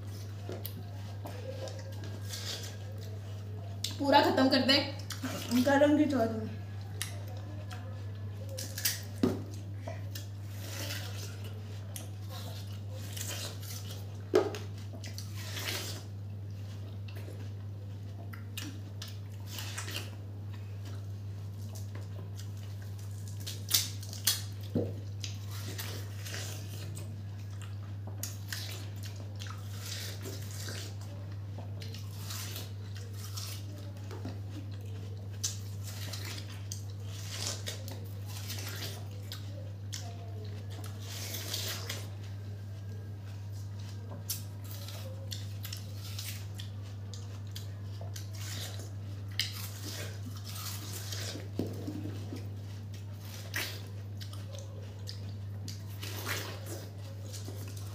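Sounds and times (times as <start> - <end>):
people eating watermelon: 0.0 - 57.9.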